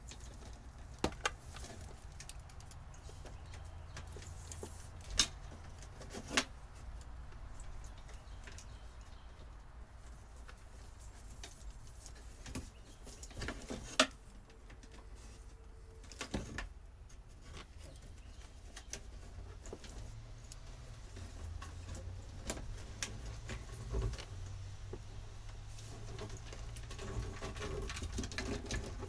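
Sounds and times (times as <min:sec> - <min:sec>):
light clicks and handling noise: 0:00.0 - 0:29.0.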